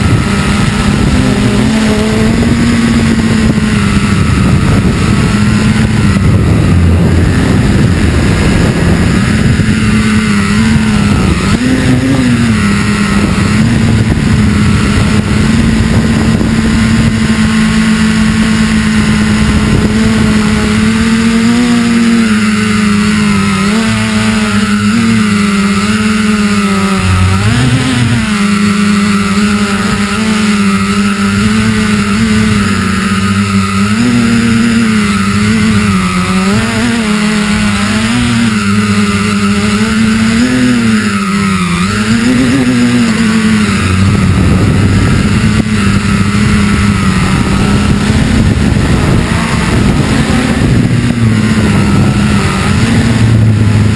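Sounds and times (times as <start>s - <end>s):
drone motors buzzing: 0.0s - 53.9s.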